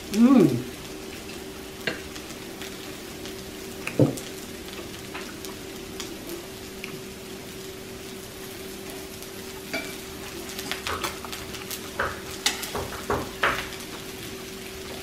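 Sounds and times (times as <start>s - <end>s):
food sizzling on a grill: 0.0s - 15.0s.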